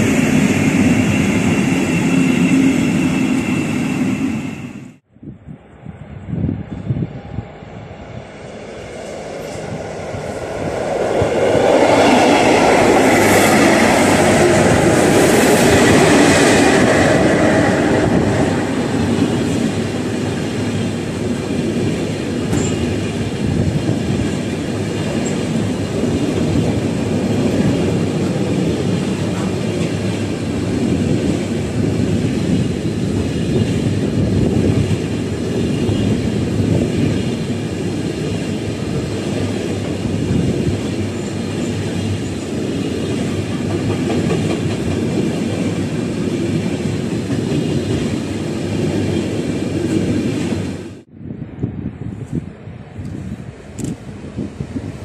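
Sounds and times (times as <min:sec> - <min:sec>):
freight train passing: 0:00.0 - 0:55.0
train wheel rumble: 0:00.0 - 0:55.0.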